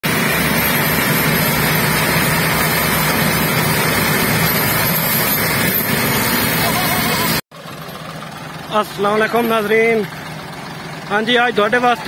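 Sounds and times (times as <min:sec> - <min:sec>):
tractor engines droning: 0:00.0 - 0:12.0.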